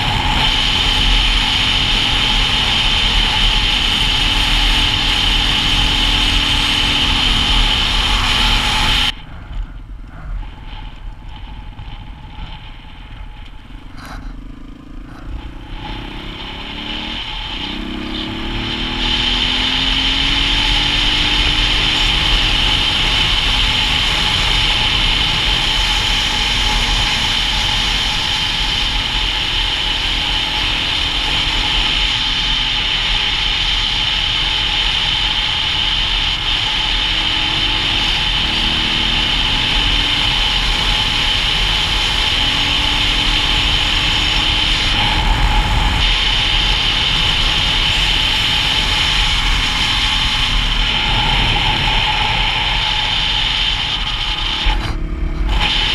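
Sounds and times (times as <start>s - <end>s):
motorcycle engine: 0.0s - 55.9s
wind rushing over microphone: 0.0s - 55.9s.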